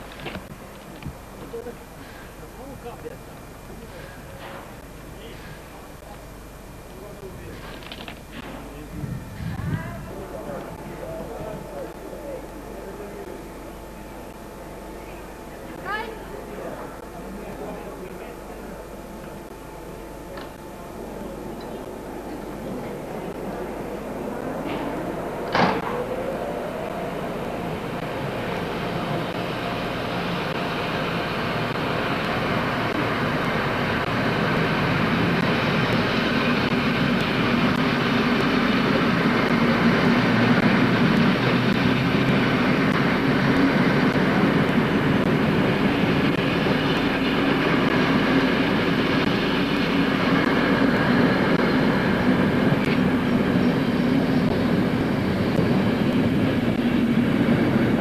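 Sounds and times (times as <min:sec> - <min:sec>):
diesel train rumbling on track: 0:00.0 - 0:58.0.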